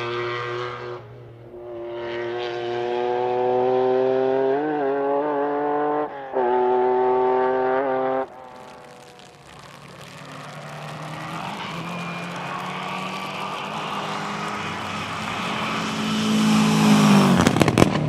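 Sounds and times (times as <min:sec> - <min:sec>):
rally car engine high revs: 0:00.0 - 0:08.8, 0:09.7 - 0:18.0
rally car approaching: 0:00.0 - 0:18.0.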